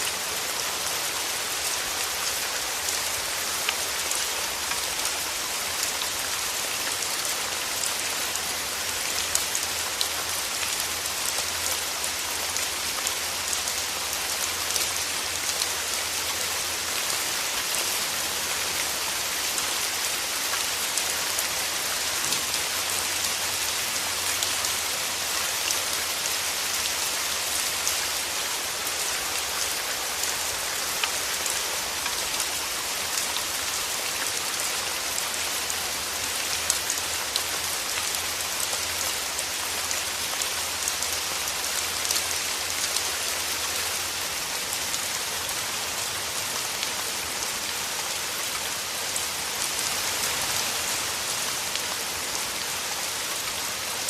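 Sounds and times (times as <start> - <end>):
rain falling through trees: 0.0 - 54.0.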